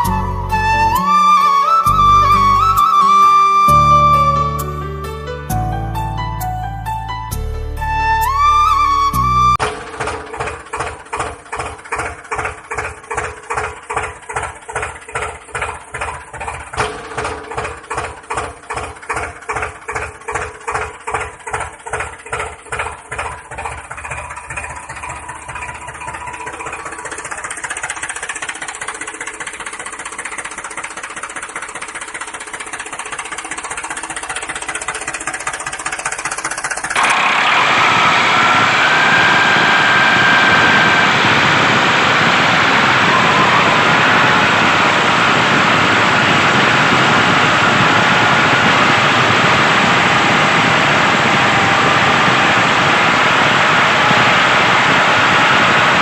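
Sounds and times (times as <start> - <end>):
bright engine with high whine: 0.0 - 56.0
engine chugging: 0.0 - 56.0.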